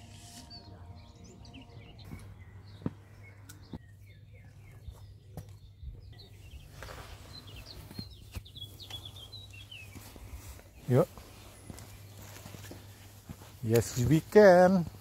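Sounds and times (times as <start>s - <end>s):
songbirds chirping: 0.0s - 15.0s
faint footsteps on stone: 2.0s - 15.0s.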